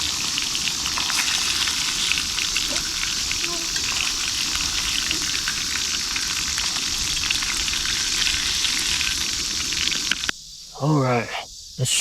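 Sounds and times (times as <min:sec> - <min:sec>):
fish sizzling in hot oil: 0:00.0 - 0:10.3.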